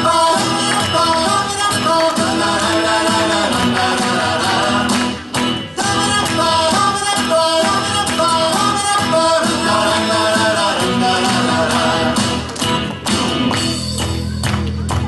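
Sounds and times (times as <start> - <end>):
children's gospel song instrumental: 0.0 - 12.6.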